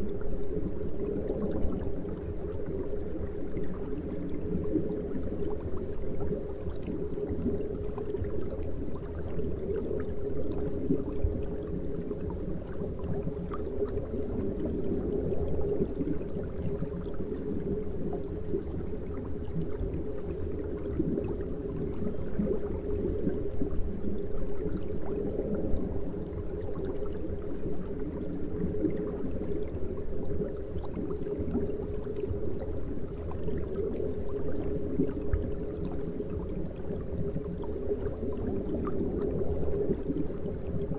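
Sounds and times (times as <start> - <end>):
aquarium water bubbling: 0.0 - 40.9.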